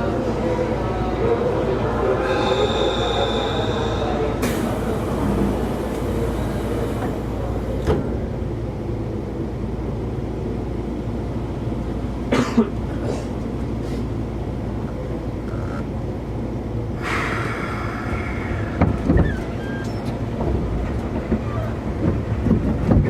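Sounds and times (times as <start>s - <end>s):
train running rumble: 0.0s - 23.0s.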